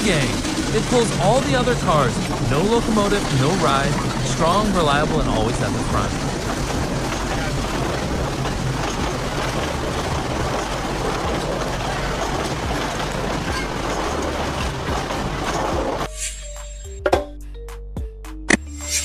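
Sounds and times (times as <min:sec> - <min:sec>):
train wheels rumbling on rails: 0:00.0 - 0:16.1.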